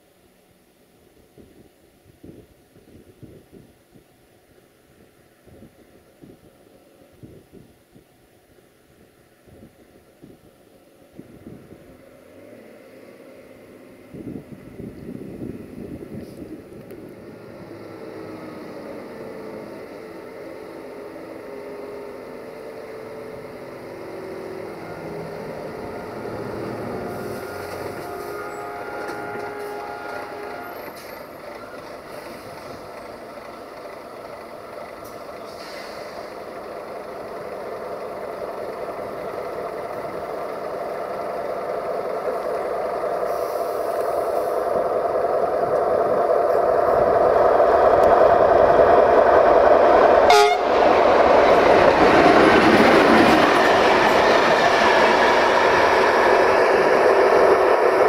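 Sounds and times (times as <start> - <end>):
electric locomotive approaching: 0.0 - 58.0.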